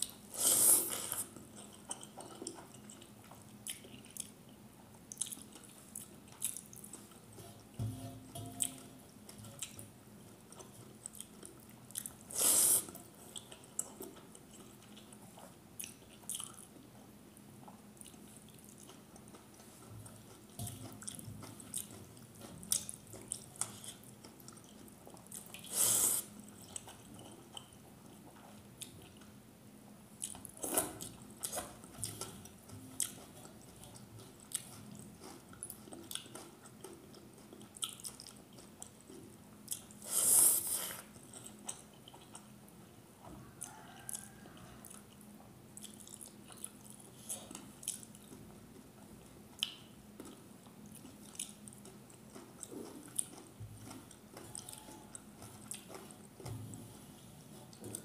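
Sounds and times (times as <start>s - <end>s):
mouth chewing and smacking: 0.0s - 29.4s, 30.2s - 58.0s.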